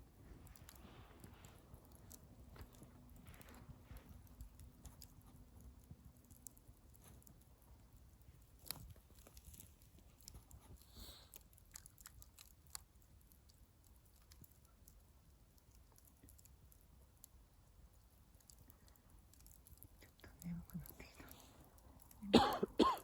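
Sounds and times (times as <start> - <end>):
faint campfire crackling: 0.0 - 23.0.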